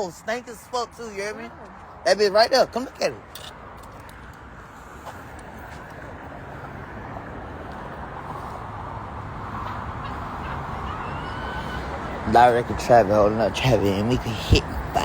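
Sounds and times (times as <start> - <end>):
vehicle approaching: 0.0 - 15.0.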